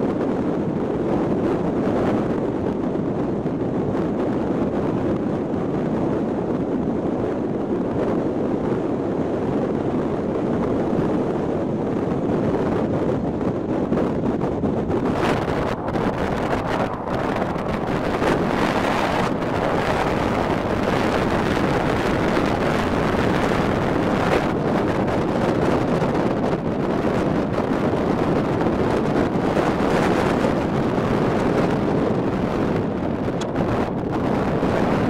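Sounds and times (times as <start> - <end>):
boat rushing on choppy water: 0.0 - 35.0
wind buffeting microphone: 0.0 - 35.0.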